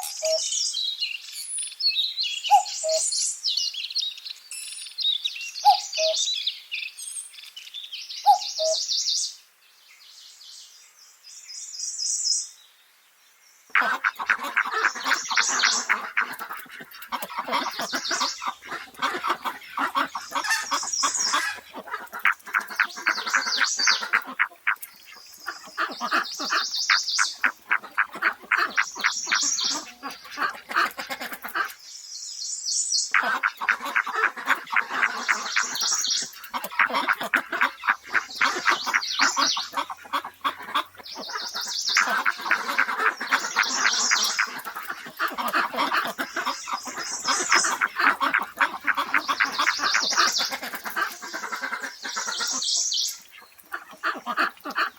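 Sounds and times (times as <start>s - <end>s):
birds chattering: 0.0s - 0.9s, 2.0s - 6.6s, 8.2s - 9.1s, 13.7s - 32.0s, 32.9s - 54.9s.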